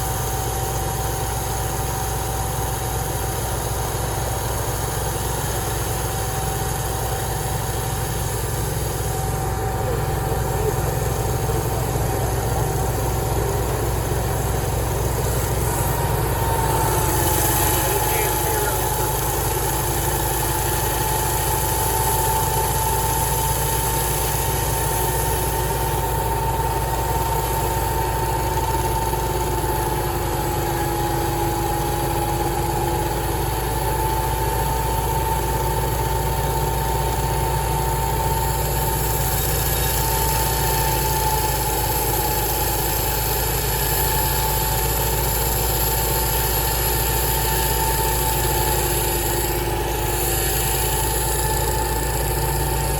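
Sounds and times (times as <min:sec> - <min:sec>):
engine hum: 0:00.0 - 0:52.9
high machine whine: 0:00.0 - 0:52.9.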